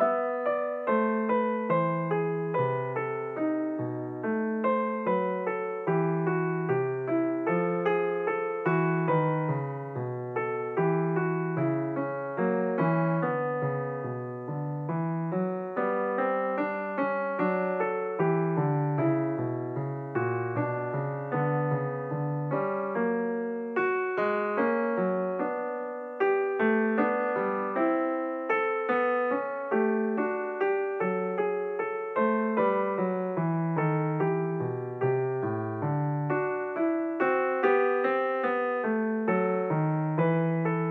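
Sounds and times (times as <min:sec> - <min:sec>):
piano music: 0:00.0 - 0:40.9.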